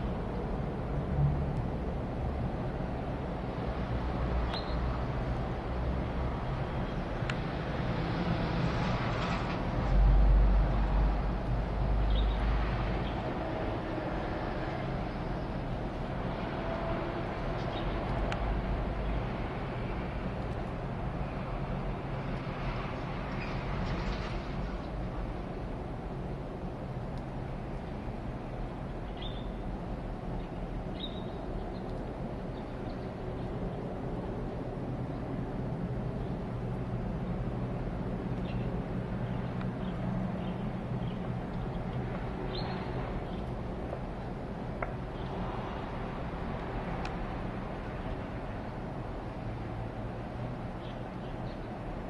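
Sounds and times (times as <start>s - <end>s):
aircraft engine rumble overhead: 0.0s - 52.0s.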